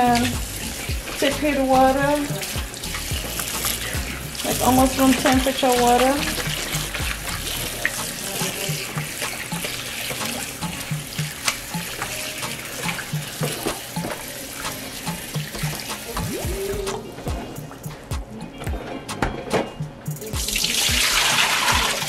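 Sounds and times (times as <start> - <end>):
tap water running into sink: 0.0 - 17.0, 20.4 - 22.0.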